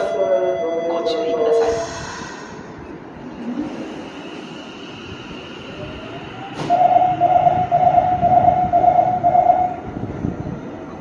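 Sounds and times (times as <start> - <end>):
low rumble of standing train: 0.0 - 11.0.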